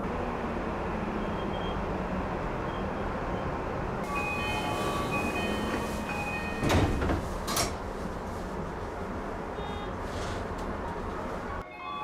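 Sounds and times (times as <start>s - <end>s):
train running noise: 0.0s - 11.6s.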